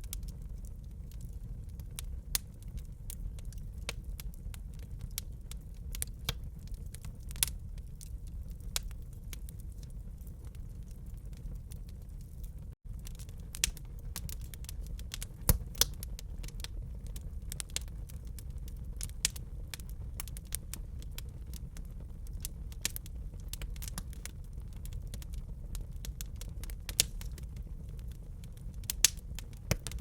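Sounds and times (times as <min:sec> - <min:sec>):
fire crackling: 0:00.0 - 0:30.0.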